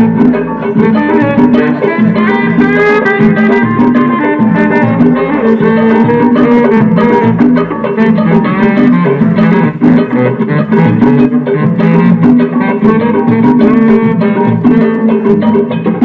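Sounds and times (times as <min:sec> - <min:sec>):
guitar and bass music with beat: 0:00.0 - 0:16.0.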